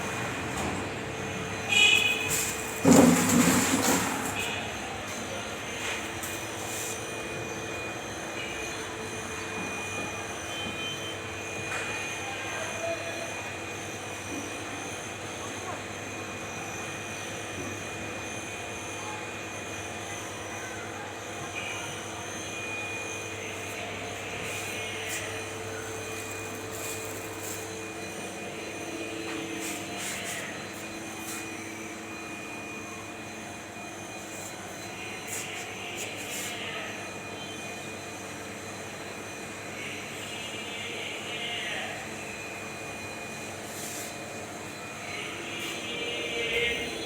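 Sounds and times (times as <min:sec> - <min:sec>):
steady mechanical hum: 0:00.0 - 0:47.0.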